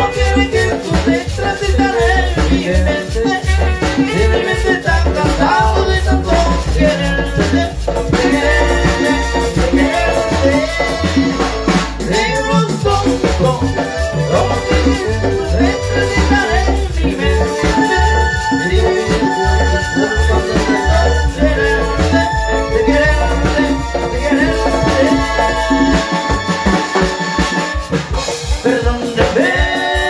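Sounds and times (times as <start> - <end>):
marimba band playing dance music: 0.0 - 30.0
pulsing bass beat: 0.0 - 30.0.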